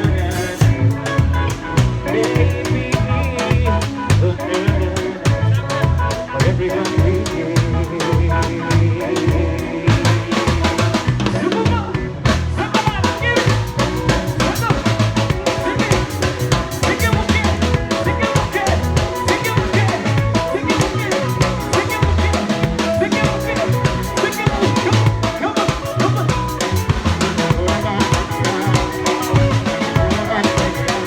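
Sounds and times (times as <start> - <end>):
drum kit busy beat: 0.0 - 31.0
live band playing instrumental: 0.0 - 31.0.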